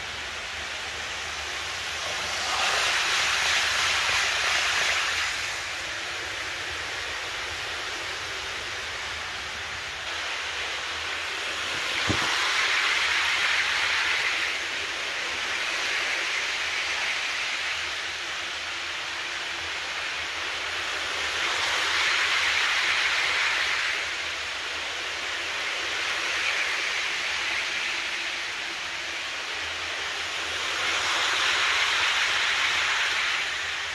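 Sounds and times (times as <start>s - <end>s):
model train wheels rumbling: 0.0s - 33.9s.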